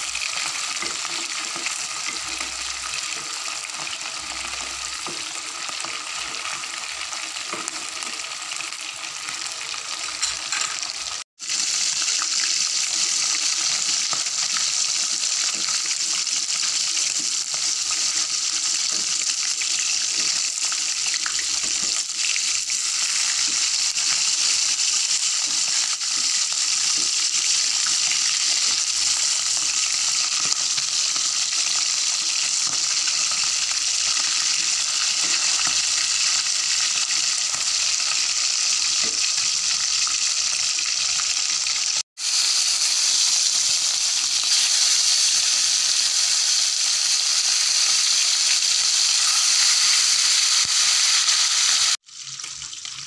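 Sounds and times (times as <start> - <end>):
fish sizzling in oil: 0.0 - 53.0.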